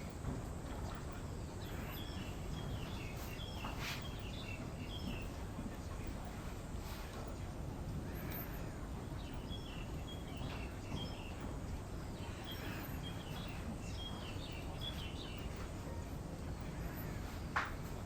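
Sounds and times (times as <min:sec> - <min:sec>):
small birds chirping: 0:00.0 - 0:18.0
steady low background noise: 0:00.0 - 0:18.0.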